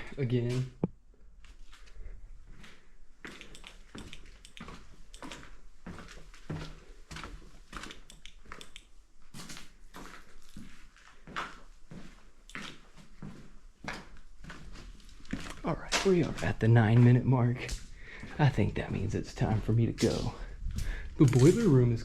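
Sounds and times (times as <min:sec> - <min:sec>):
scuffing footsteps: 0:00.4 - 0:08.6, 0:09.2 - 0:22.0.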